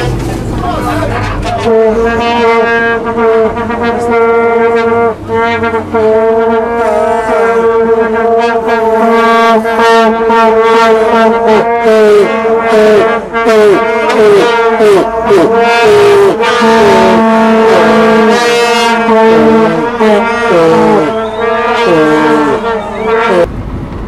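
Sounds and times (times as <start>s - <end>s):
vuvuzela blaring: 0.0s - 23.5s.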